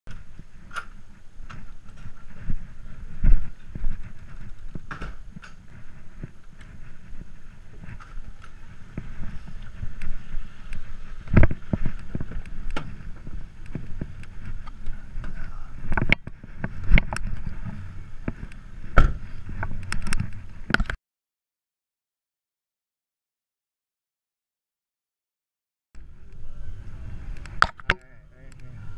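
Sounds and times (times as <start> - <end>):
low rumble of movement: 0.1 - 21.0, 26.0 - 28.9.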